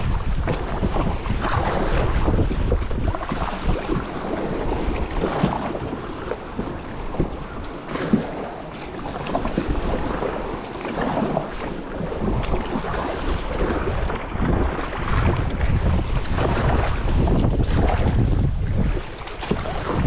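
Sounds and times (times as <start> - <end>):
paddle strokes splashing: 0.0 - 20.0
water sloshing against kayak: 0.0 - 20.0
wind buffeting microphone: 0.0 - 20.0.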